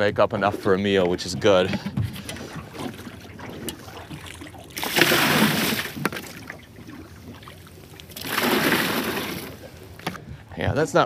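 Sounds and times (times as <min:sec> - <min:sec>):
water splashing from bucket: 0:00.4 - 0:09.8.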